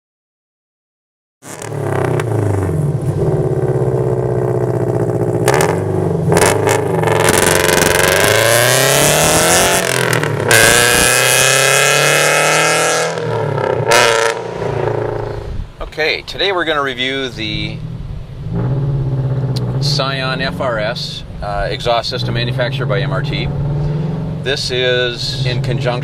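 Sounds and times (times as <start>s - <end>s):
car engine through loud exhaust: 1.4s - 15.9s, 17.2s - 26.0s.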